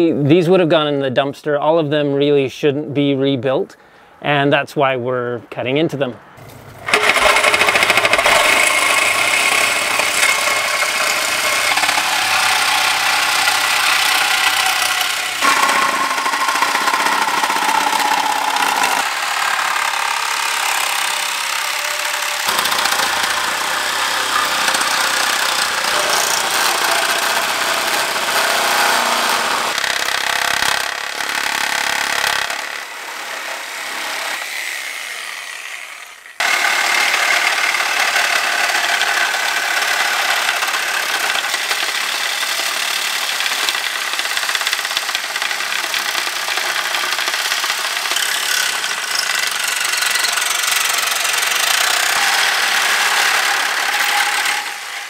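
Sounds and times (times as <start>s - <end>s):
reciprocating saw cutting: 6.4s - 55.0s.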